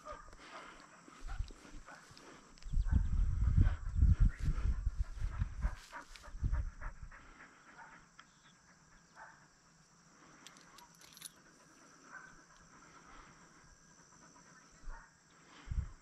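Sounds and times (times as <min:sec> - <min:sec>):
dog panting: 0:00.0 - 0:09.5, 0:11.2 - 0:15.1.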